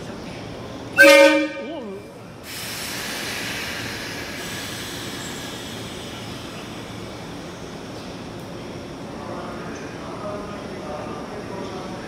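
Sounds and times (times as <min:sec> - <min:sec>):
electric train hissing running noise: 0:02.1 - 0:12.0.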